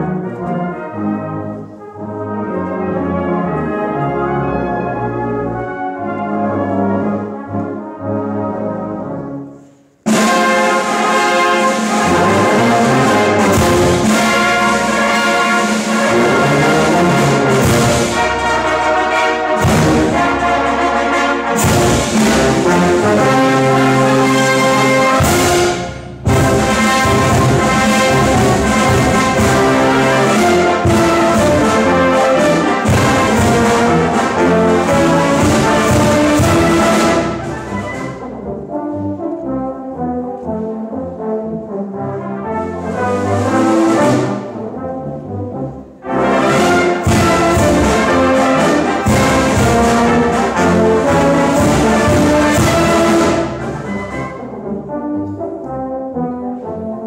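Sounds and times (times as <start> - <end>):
brass band playing: 0.0 - 57.0.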